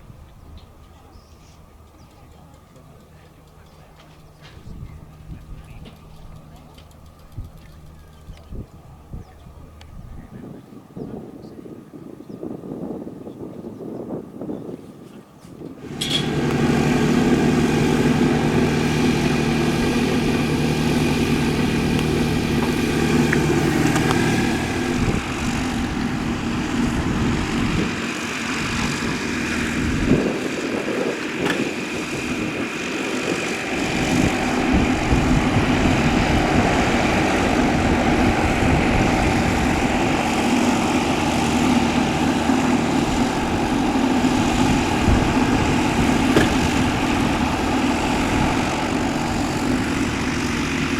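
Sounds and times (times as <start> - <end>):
light aircraft engine and propeller: 0.0 - 50.9.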